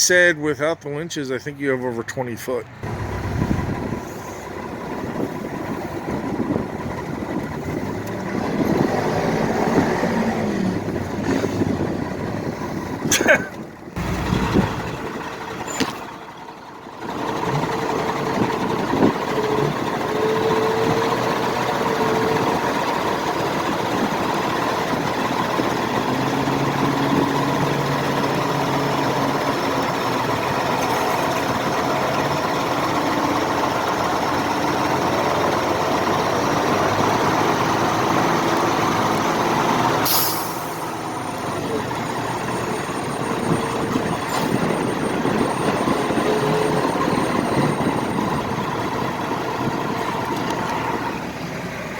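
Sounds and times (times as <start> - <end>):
heavy truck engine running: 0.1 - 51.9.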